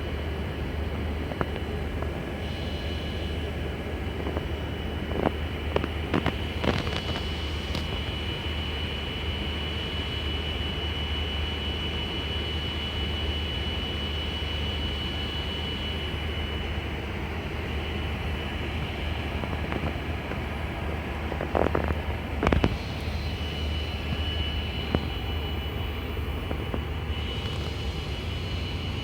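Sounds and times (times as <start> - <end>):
cockpit air hum: 0.0 - 29.0
thin high whine: 0.0 - 29.0.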